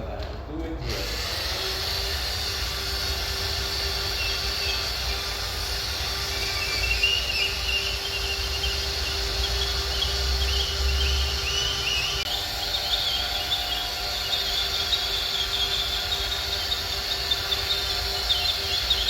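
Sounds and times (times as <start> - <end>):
electric drill polishing pad hum: 0.8 - 19.0
birds chirping faintly: 2.8 - 19.0.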